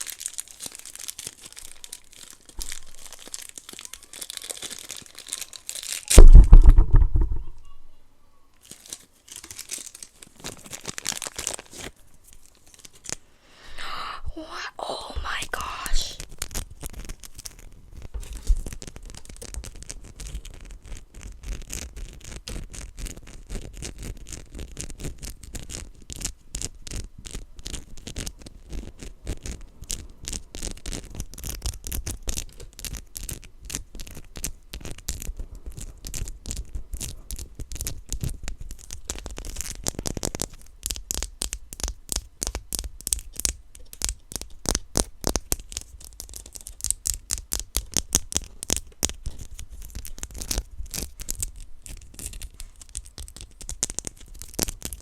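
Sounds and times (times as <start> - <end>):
plastic packaging crinkling and clicking: 0.0 - 7.4, 8.6 - 13.2, 16.2 - 55.0.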